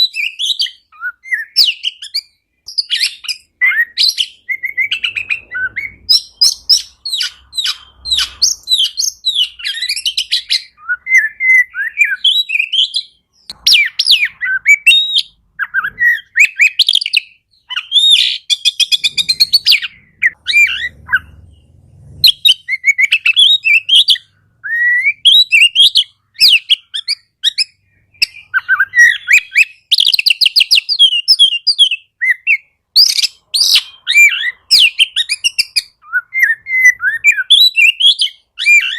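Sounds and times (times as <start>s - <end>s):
bird singing whistles and chatter: 0.0s - 38.9s.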